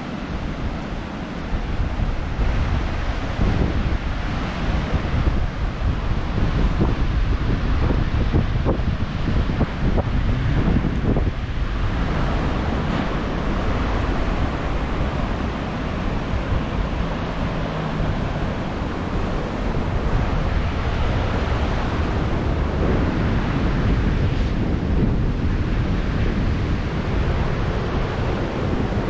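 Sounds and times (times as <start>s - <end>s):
surf breaking on a beach: 0.0s - 29.0s
wind buffeting the microphone: 0.0s - 29.0s.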